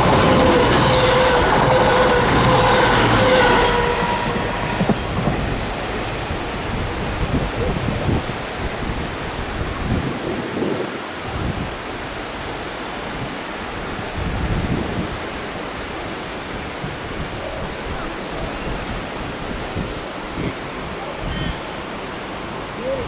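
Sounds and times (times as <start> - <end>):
sea surf: 0.0 - 23.0
wind on microphone: 0.0 - 23.0.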